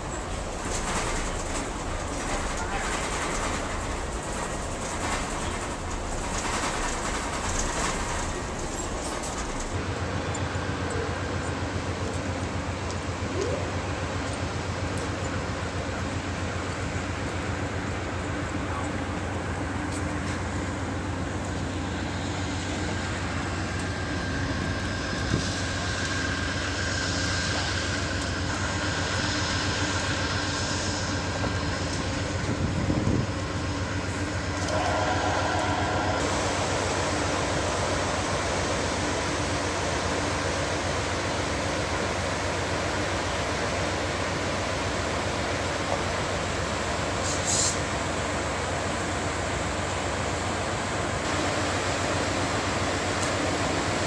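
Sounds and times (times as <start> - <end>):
train humming and rumbling: 0.0 - 54.0.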